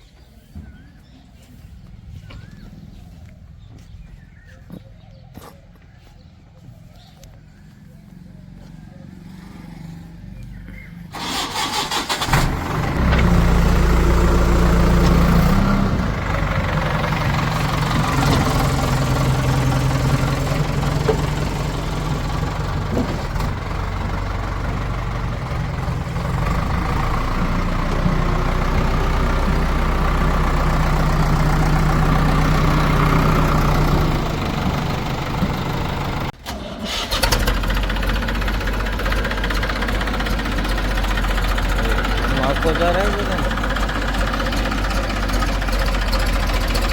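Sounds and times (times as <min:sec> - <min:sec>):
diesel engine starting and running: 0:00.2 - 0:46.9.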